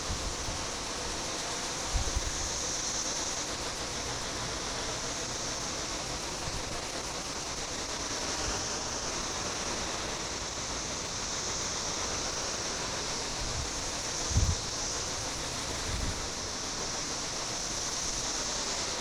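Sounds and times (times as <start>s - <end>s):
water spraying from hose: 0.0s - 19.0s.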